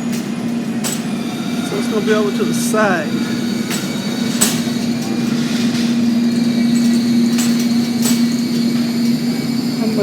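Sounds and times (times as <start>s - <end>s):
shopping cart rolling: 0.0s - 10.0s.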